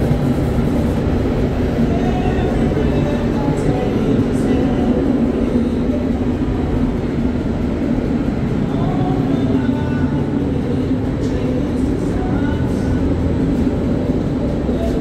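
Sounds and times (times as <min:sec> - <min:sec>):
loud mechanical rumble and hum: 0:00.0 - 0:15.0.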